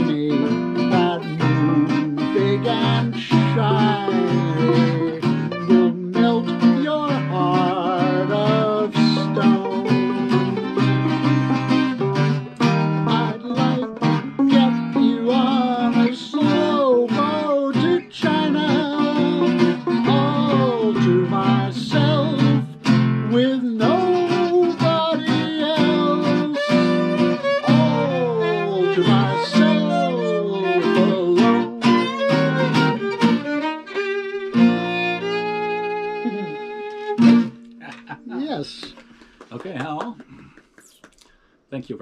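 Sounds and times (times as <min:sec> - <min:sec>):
violin melody with sliding notes: 0:00.0 - 0:37.8
strummed acoustic guitar chords: 0:00.0 - 0:38.4.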